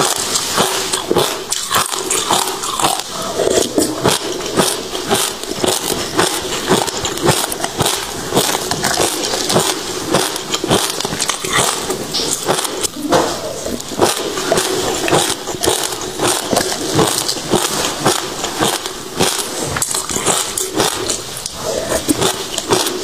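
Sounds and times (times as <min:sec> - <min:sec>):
seeds crunching while chewed: 0:00.0 - 0:23.0.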